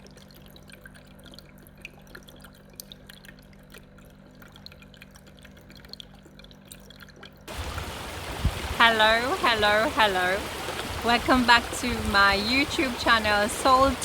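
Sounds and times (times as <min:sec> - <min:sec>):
water dripping and trickling: 0:00.0 - 0:14.0.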